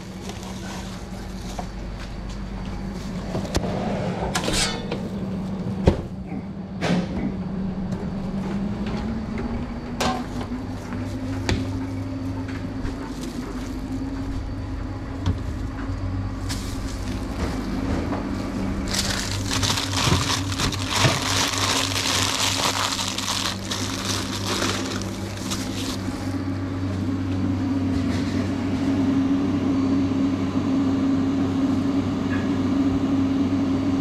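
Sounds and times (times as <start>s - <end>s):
steady machine hum: 0.0s - 34.0s.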